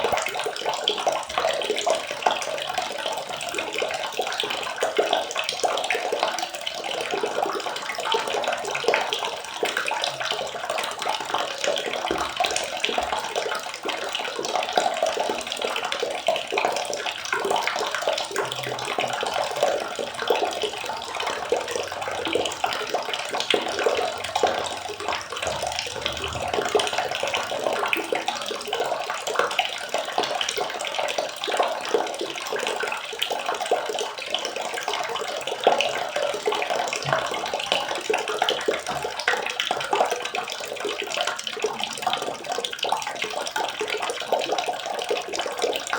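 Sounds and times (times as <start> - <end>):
water running and splashing: 0.0 - 45.9.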